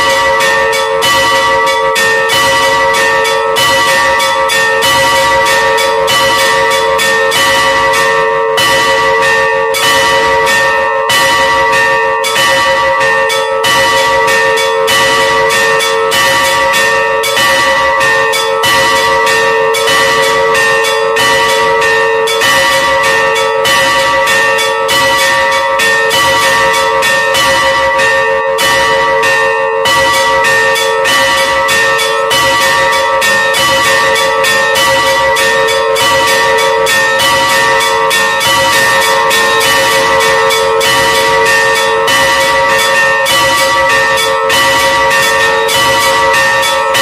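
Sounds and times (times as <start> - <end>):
church bells ringing: 0.0 - 47.0.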